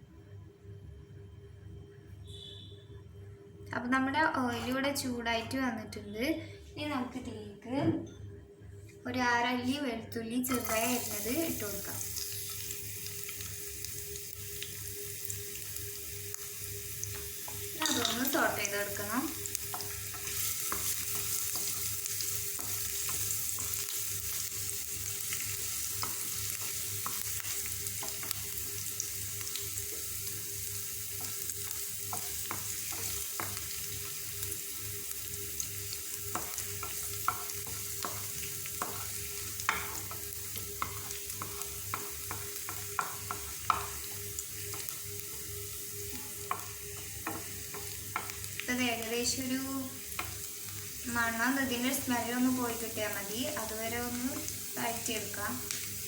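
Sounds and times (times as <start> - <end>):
garlic sizzling in hot oil: 10.4 - 56.0.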